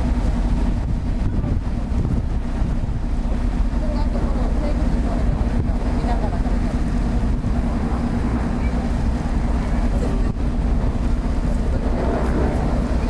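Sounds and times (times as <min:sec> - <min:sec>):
ferry engines droning: 0:00.0 - 0:13.0
wind noise on microphone: 0:00.0 - 0:13.0.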